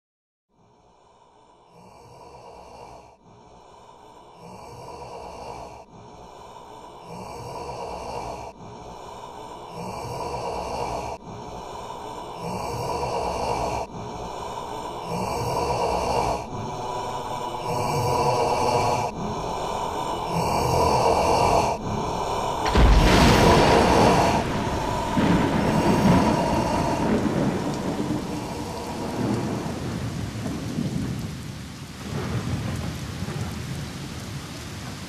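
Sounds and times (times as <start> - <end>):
spooky slow breathing: 0.5 - 31.2.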